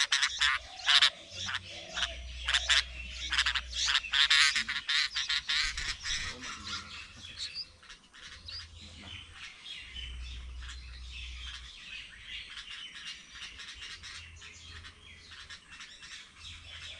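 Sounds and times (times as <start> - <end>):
birds chirping and squawking: 0.0 - 16.9.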